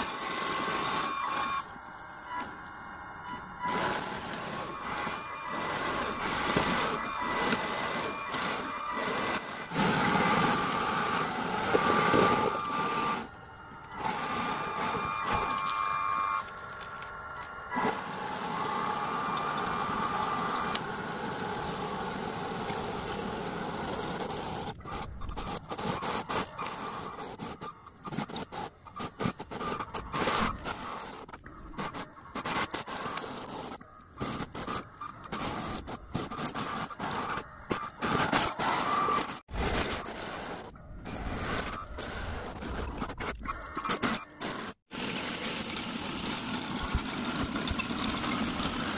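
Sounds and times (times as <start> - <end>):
toy bulldozer drive whine: 0.0 - 48.9
metallic clatter and scraping: 3.3 - 48.9.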